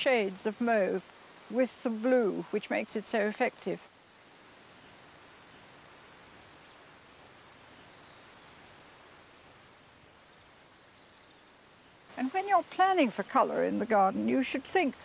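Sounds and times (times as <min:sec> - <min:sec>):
faint background hiss: 0:00.0 - 0:15.0.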